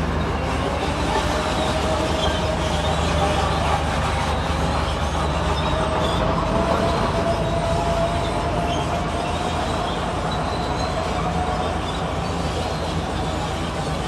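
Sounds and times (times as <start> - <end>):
diesel machinery engine rumble: 0.0 - 14.0.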